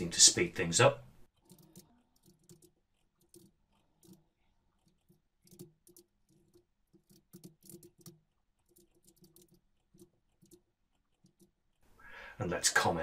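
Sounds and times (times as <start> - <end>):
faint keyboard typing: 1.2 - 11.9.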